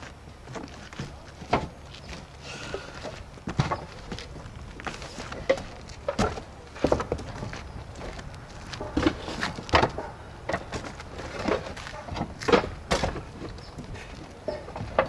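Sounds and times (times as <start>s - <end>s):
roof tiles clacking together: 0.0s - 15.0s.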